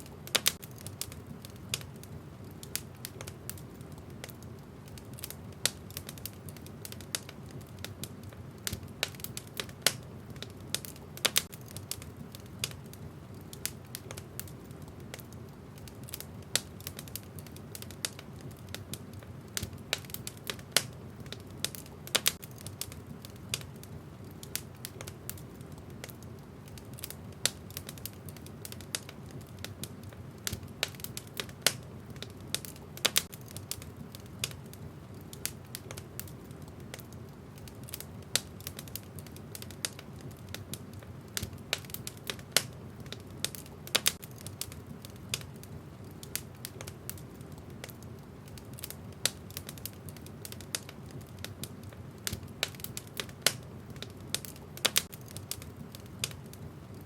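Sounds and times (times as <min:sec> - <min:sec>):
low rumble of burning fire: 0:00.0 - 0:57.0
wood fire crackling and popping: 0:00.0 - 0:57.0.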